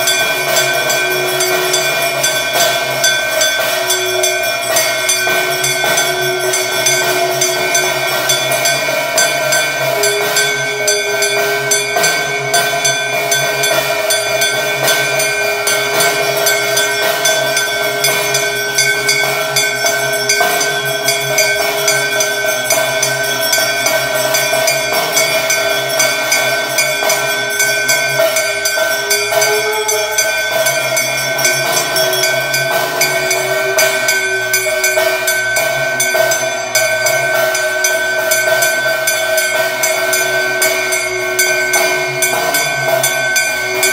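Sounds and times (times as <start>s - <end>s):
held low metallic tone: 0.0s - 43.9s
percussion clanging: 0.0s - 43.9s
temple bells ringing: 0.0s - 43.9s.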